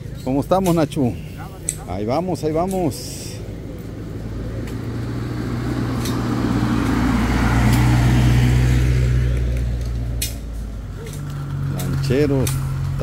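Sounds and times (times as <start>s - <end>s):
car engine hum: 0.0s - 13.0s
tyre noise on road: 0.0s - 13.0s.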